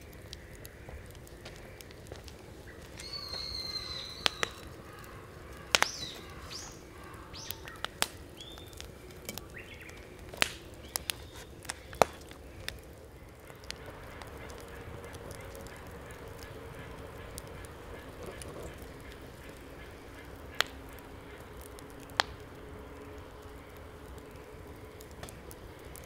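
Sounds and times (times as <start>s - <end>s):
bonfire crackling and popping: 0.0s - 26.0s.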